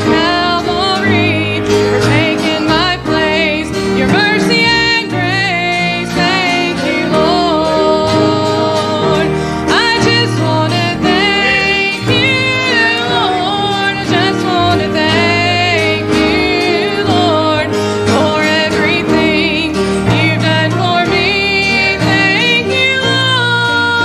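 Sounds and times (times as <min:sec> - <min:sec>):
acoustic guitar: 0:00.0 - 0:24.0
electric bass: 0:00.0 - 0:24.0
woman singing gospel song: 0:00.0 - 0:24.0.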